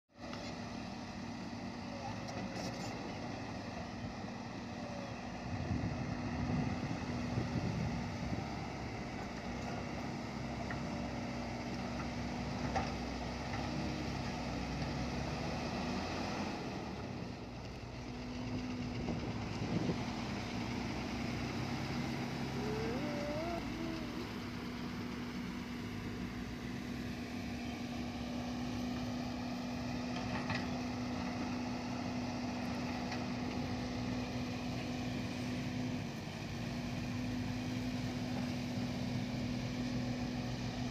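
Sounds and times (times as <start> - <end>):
vehicle engine humming: 0.2 - 40.9.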